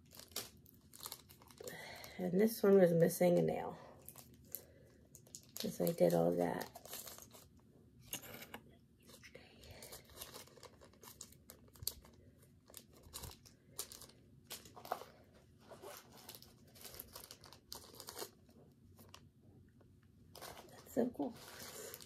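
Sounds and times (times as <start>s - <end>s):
plastic bag crinkling: 0.0s - 2.6s, 3.5s - 7.6s, 9.2s - 19.2s, 20.3s - 22.0s.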